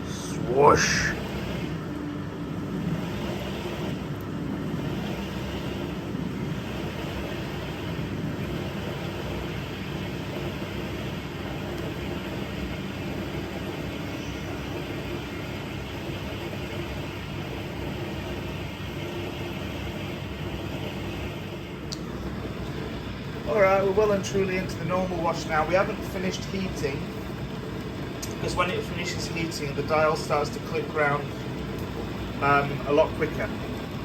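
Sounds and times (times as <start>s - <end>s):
dishwasher motor hum: 0.0s - 34.0s.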